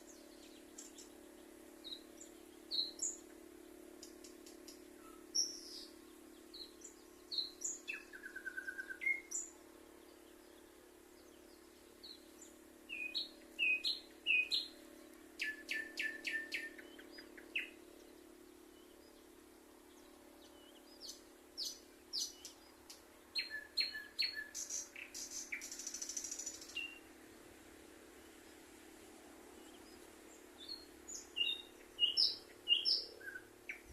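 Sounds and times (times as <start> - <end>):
faint low hum: 0.0 - 33.9
songbirds chirping and trilling: 0.0 - 33.9.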